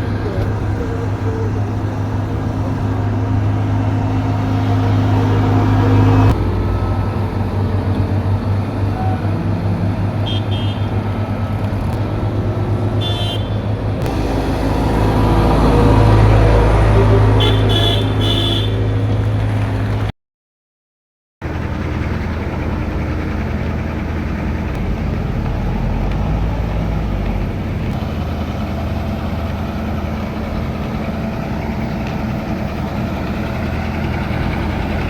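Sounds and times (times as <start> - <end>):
diesel engines humming: 0.0 - 20.1, 21.4 - 35.0.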